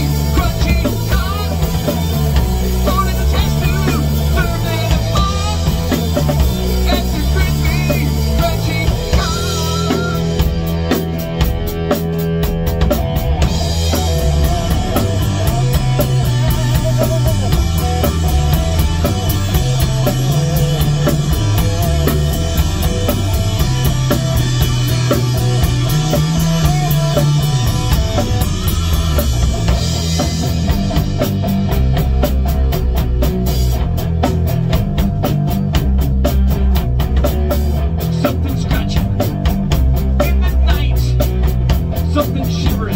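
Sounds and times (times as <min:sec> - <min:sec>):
bass guitar: 0:00.0 - 0:42.9
drum kit: 0:00.0 - 0:42.9
electric guitar: 0:00.0 - 0:42.9.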